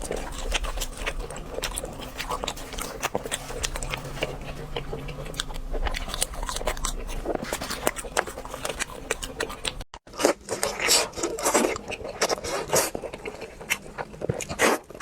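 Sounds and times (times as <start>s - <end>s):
crunching crispy fried food: 0.0s - 15.0s.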